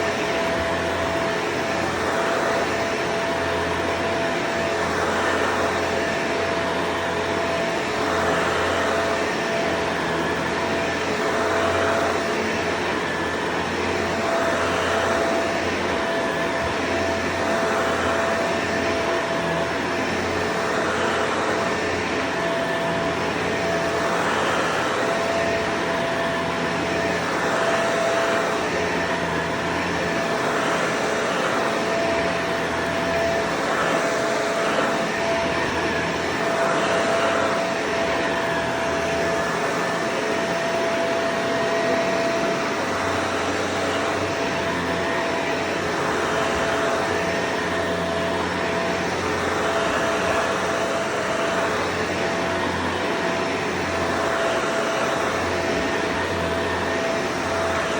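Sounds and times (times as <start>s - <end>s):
vacuum cleaner whining motor: 0.0s - 57.9s.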